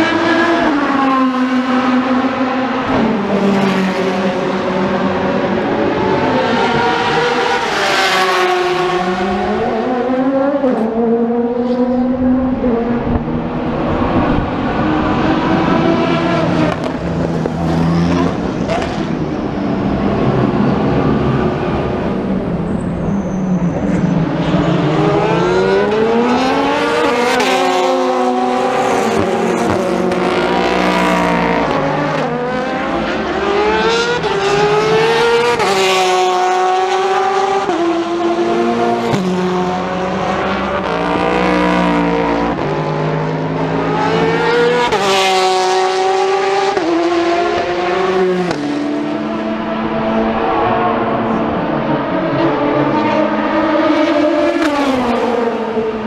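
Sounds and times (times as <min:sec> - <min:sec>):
race cars accelerating past: 0:00.0 - 0:56.0.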